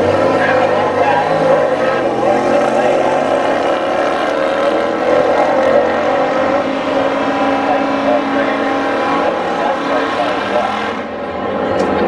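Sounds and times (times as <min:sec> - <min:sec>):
car engines racing at high revs: 0:00.0 - 0:12.0.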